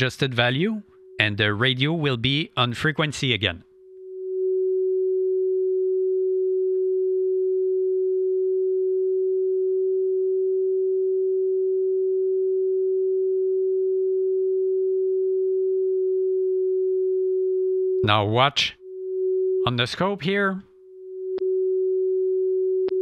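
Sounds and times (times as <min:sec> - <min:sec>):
steady pure tone: 0:03.7 - 0:23.0.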